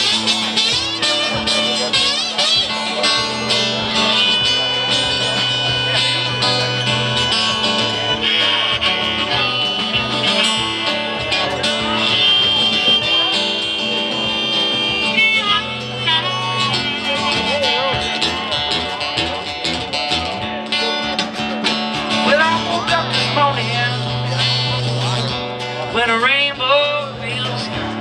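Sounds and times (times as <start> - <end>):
acoustic guitar: 0.0 - 28.0
drum kit: 0.0 - 28.0.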